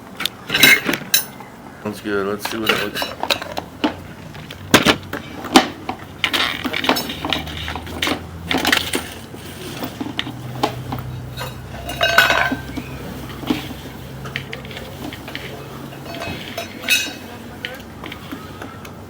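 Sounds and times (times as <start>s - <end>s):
metallic clinks and knocks: 0.5s - 1.4s, 2.5s - 18.6s
metal scraping clatter: 2.4s - 18.8s.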